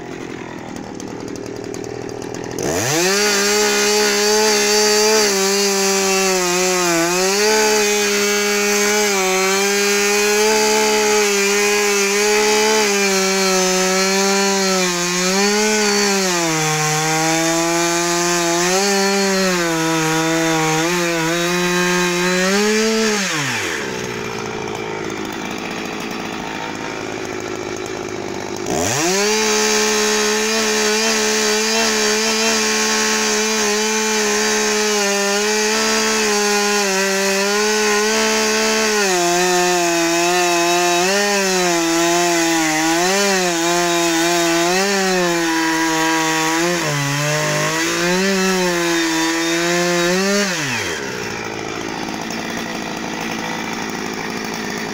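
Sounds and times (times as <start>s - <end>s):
chainsaw cutting a log: 0.0s - 54.9s
chainsaw idling: 0.0s - 54.9s.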